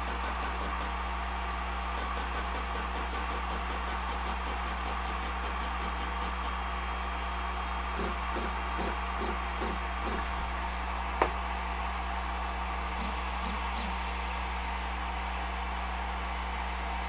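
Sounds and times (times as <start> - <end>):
electric machine hum: 0.0 - 17.0.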